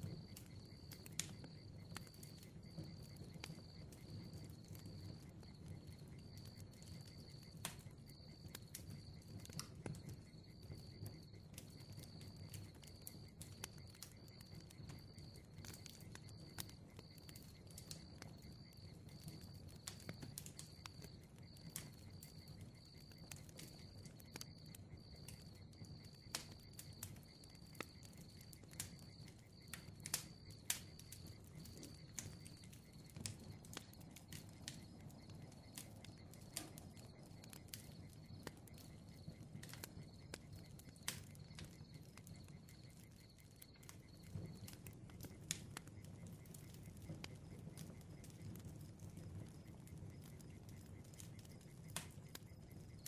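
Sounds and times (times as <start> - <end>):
bonfire crackling and popping: 0.0 - 53.0
low rumble of flames: 0.0 - 53.0.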